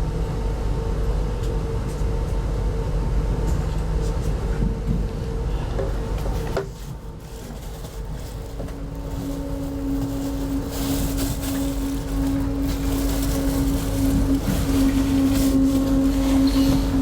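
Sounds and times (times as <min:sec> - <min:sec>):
train running gear rumble: 0:00.0 - 0:17.0.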